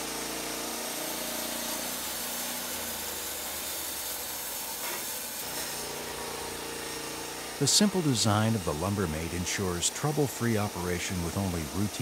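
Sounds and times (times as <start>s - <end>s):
band saw blade cutting log: 0.0s - 12.0s
low sawmill drive hum: 0.0s - 12.0s.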